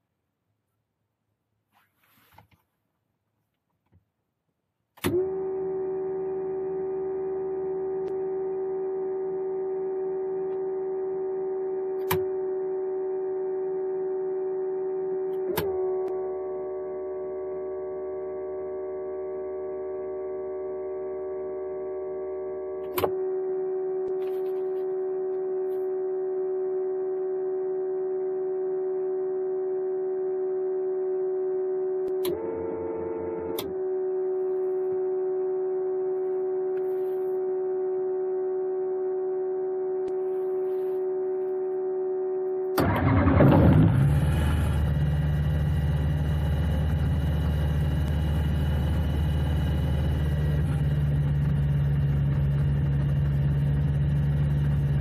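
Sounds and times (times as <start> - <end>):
electrical hum: 5.2 - 55.0.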